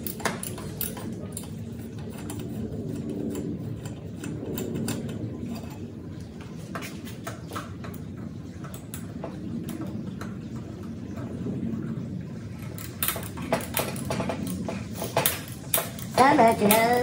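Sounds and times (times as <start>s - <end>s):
metal tools clicking and tapping: 0.0s - 10.7s, 12.7s - 17.0s
low hum: 0.0s - 17.0s.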